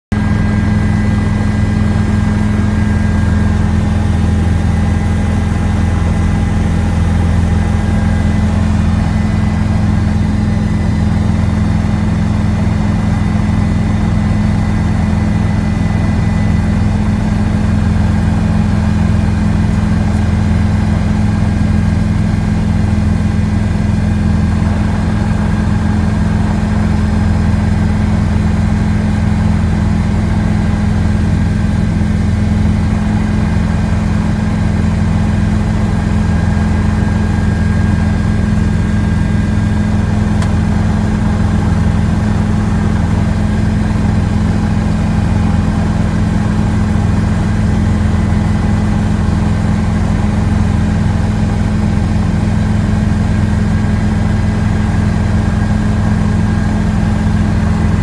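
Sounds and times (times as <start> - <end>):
helicopter engine and rotor drone: 0.1 - 58.0.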